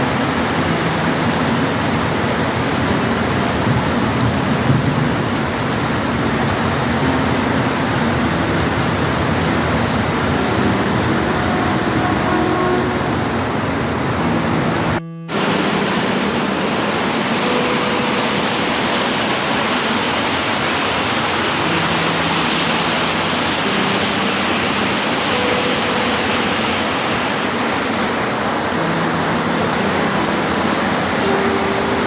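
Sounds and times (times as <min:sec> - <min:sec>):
heavy rain hiss: 0:00.0 - 0:32.0.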